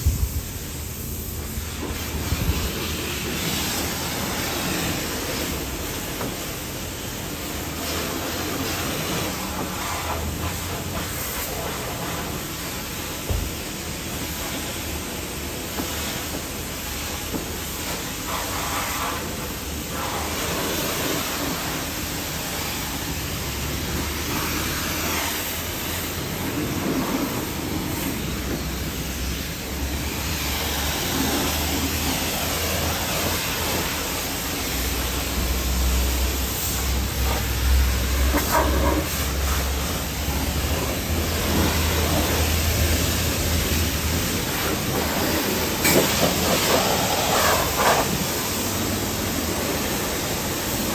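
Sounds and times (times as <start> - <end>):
hose water spraying: 0.0 - 50.9.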